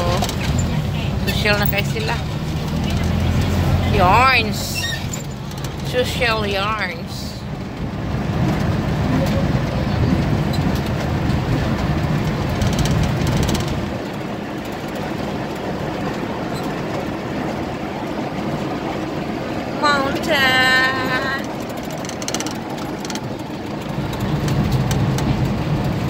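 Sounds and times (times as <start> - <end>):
vehicle road rumble: 0.0 - 26.0.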